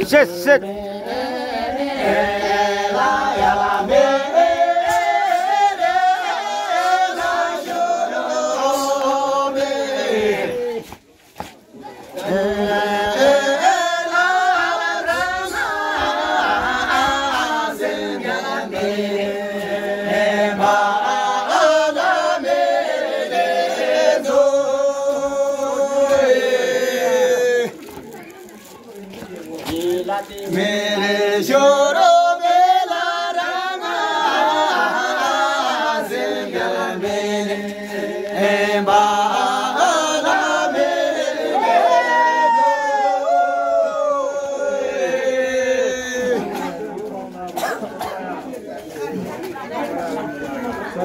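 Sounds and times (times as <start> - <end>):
men singing unaccompanied: 0.0 - 11.0, 12.2 - 27.8, 29.4 - 47.0.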